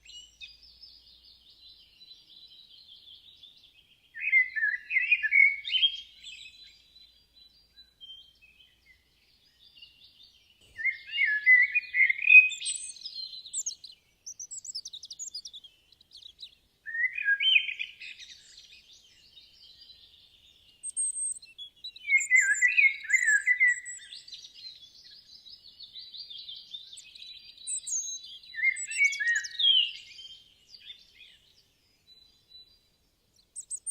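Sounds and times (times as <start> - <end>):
birds twittering and chirping: 0.0 - 33.9.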